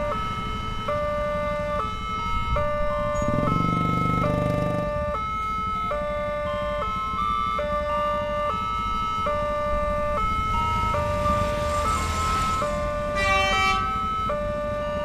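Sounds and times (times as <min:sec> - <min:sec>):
two-tone crossing alarm chime: 0:00.0 - 0:15.0
motorcycle engines: 0:02.6 - 0:15.0.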